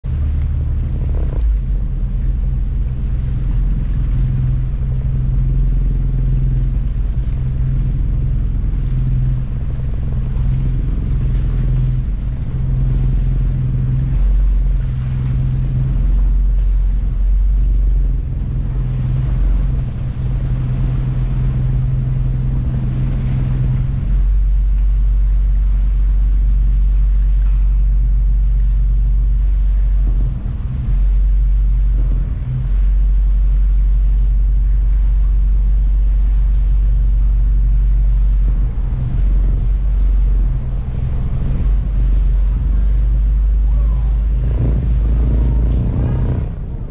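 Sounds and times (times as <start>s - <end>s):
boat engine low rumble: 0.0s - 46.9s.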